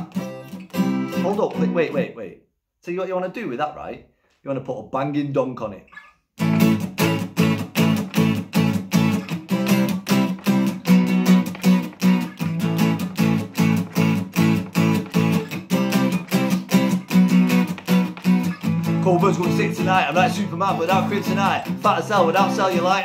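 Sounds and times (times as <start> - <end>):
acoustic guitar strumming: 0.0 - 2.2, 5.9 - 23.0.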